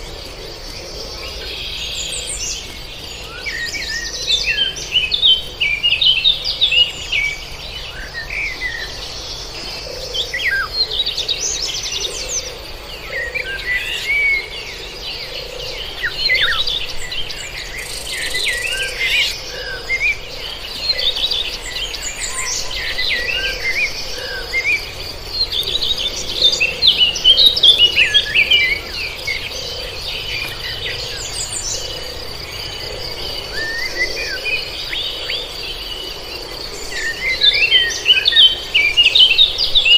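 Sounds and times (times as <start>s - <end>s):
birds chirping and warbling: 0.0s - 39.9s
high insect trill: 0.0s - 39.9s.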